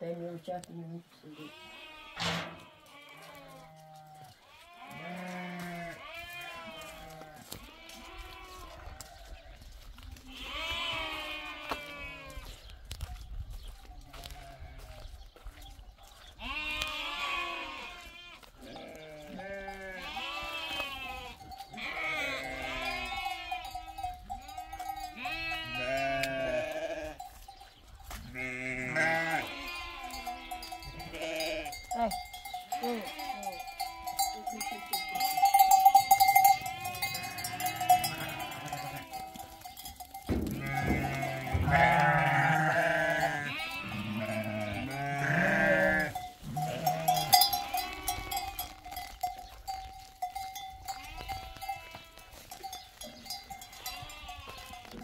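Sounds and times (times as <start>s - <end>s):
sheep bleating: 1.3s - 9.3s, 10.2s - 12.6s, 16.4s - 27.2s, 28.3s - 48.8s, 50.8s - 55.0s.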